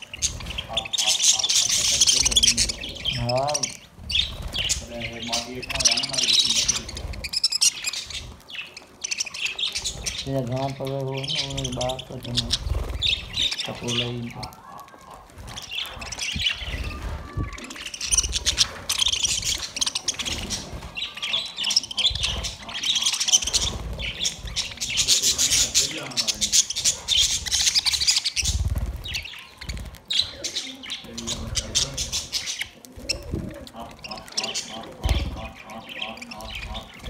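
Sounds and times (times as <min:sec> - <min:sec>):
budgerigars chattering and chirping: 0:00.0 - 0:37.0.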